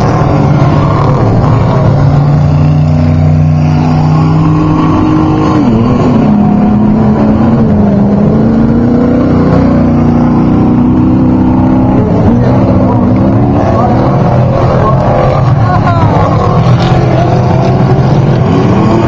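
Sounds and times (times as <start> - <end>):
race truck engines running: 0.0 - 19.0.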